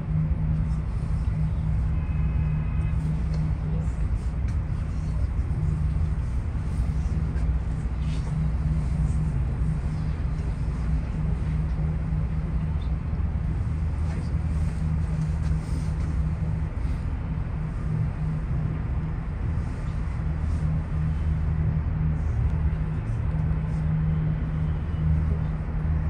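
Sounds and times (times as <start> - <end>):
low rumble with hum: 0.0 - 26.0.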